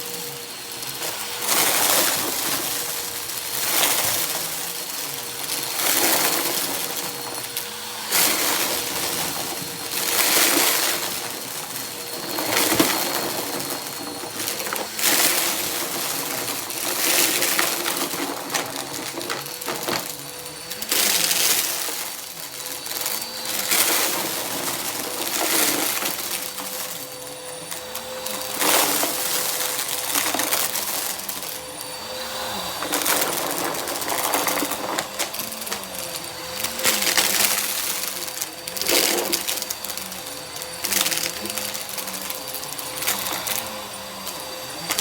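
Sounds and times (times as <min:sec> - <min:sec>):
confetti rattling through vacuum: 0:00.0 - 0:45.0
vacuum cleaner motor whine: 0:00.0 - 0:45.0.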